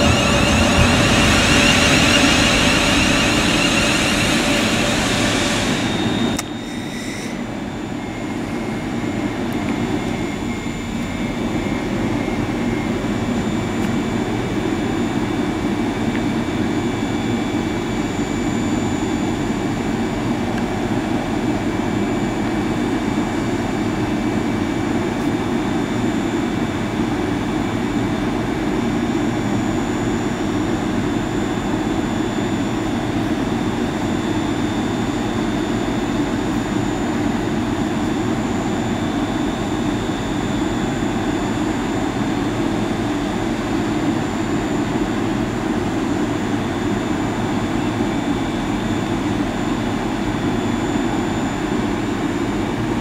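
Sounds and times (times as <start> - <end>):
train running close by: 0.0 - 53.0.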